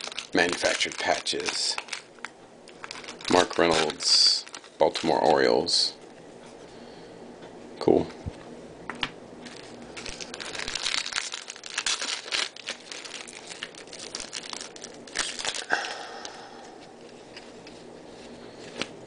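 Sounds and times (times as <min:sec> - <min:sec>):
foil wrapper crinkling: 0:00.0 - 0:06.0, 0:09.4 - 0:19.0.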